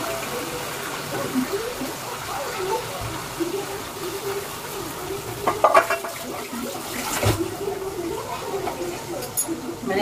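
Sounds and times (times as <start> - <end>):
chicken sizzling in hot fat: 0.0 - 10.0.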